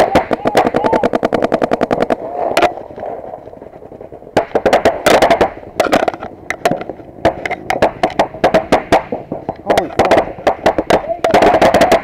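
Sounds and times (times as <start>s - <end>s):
paintball guns firing: 0.0s - 2.8s, 4.3s - 12.0s.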